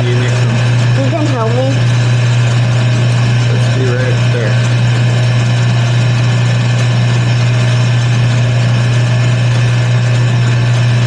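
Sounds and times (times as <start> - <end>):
wood lathe humming: 0.0 - 11.0.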